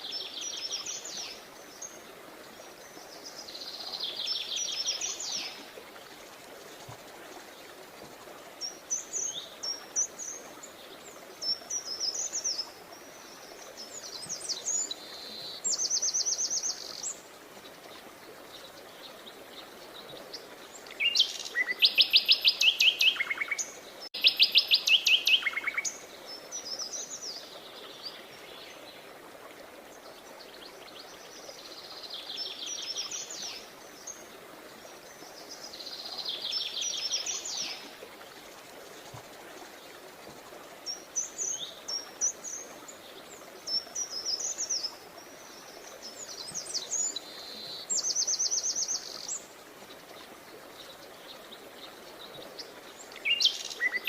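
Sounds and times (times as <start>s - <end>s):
songbirds singing: 8.4s - 29.2s, 29.8s - 54.0s.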